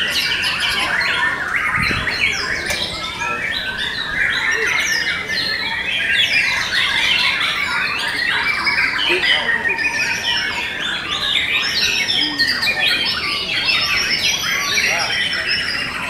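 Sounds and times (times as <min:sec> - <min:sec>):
birds singing overlapping whistles: 0:00.0 - 0:16.0.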